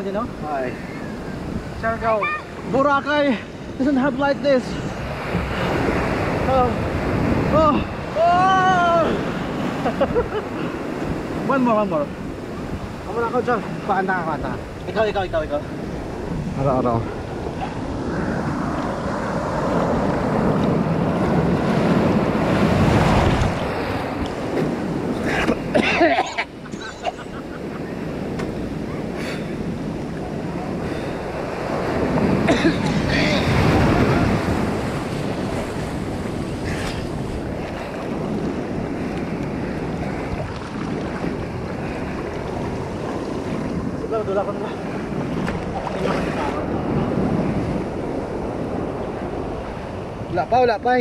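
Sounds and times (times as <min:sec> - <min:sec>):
ocean surf breaking: 0:00.0 - 0:51.0
wind noise on microphone: 0:00.0 - 0:51.0.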